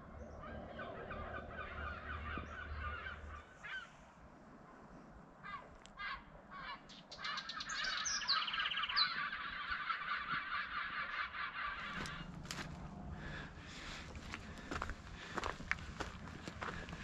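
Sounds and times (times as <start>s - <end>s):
flock of birds calling: 0.3s - 4.0s, 5.4s - 17.0s.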